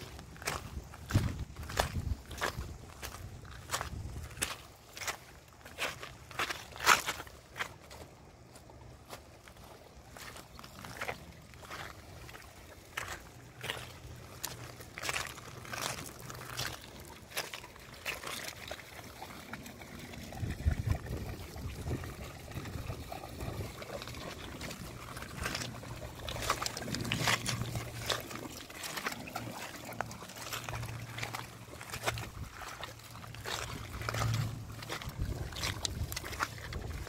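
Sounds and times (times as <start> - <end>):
dogs splashing through water: 0.0 - 37.0
water trickling: 0.0 - 37.0.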